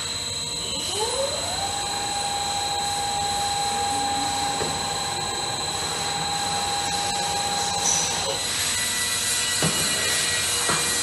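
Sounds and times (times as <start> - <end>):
band saw motor running: 0.0 - 11.0.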